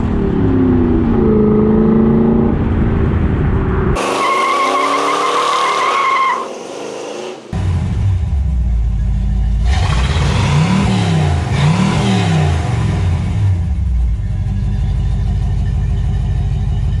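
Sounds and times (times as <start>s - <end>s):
car engine idling and revving: 0.0s - 5.8s, 6.4s - 17.0s.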